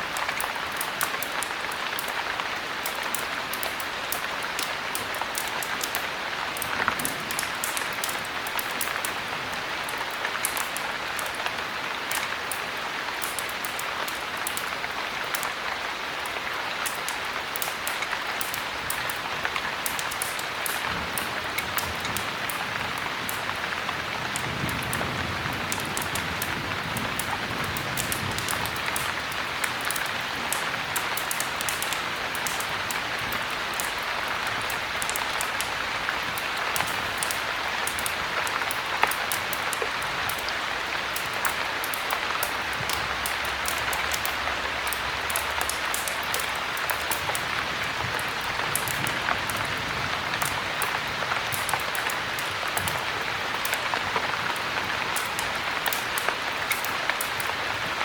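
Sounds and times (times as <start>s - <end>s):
fire crackling and popping: 0.0s - 58.0s
heavy rain: 0.0s - 58.0s.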